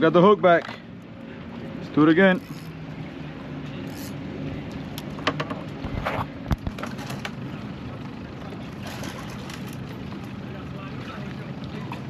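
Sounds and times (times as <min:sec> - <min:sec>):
low motor hum: 0:00.8 - 0:12.0.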